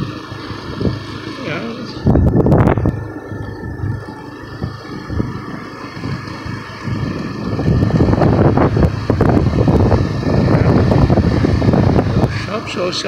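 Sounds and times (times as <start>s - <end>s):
motorbike running: 0.0s - 13.0s
wind rushing over microphone: 0.0s - 13.0s.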